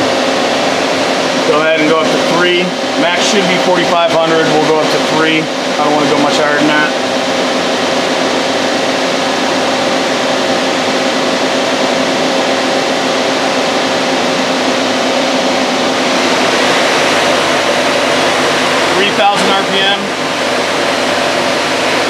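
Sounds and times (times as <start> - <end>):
lathe spindle whirring: 0.0 - 22.0.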